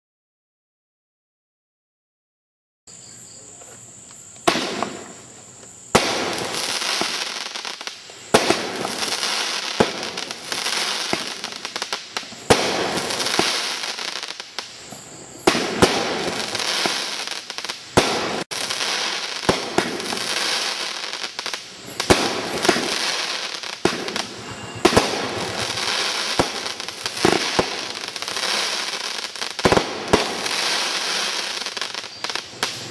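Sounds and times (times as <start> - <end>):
fireworks hiss: 3.6 - 32.9
fireworks shots and bursts: 4.4 - 32.9.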